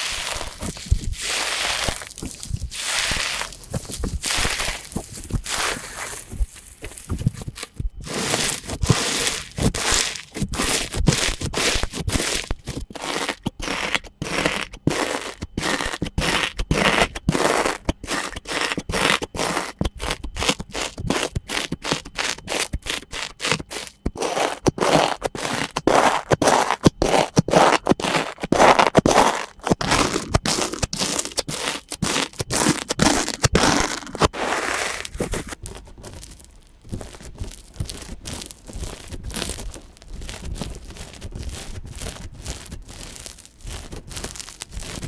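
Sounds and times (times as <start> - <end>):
slime squishing by hand: 0.0 - 45.0.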